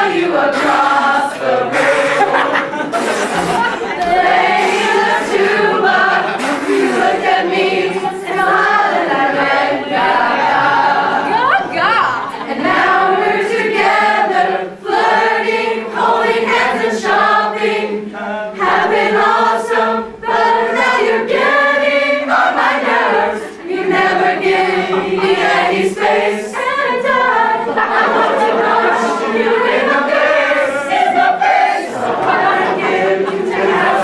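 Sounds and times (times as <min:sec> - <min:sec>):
choir singing: 0:00.0 - 0:34.0.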